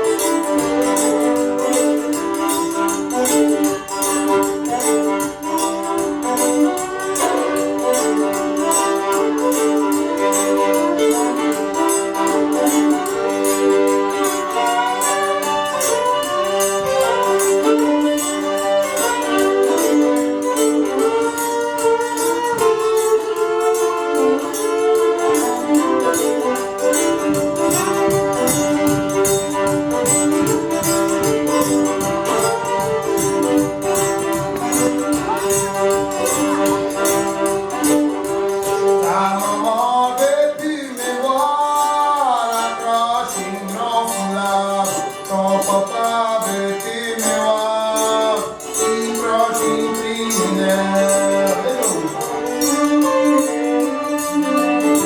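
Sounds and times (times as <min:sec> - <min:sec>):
accordion: 0:00.0 - 0:55.0
fiddle: 0:00.0 - 0:55.0
string band playing: 0:00.0 - 0:55.0.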